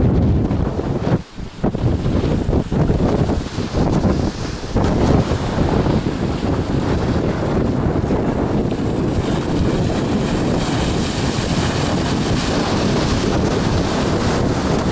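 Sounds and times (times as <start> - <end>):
waves rushing: 0.0 - 14.9
wind buffeting microphone: 0.0 - 14.9.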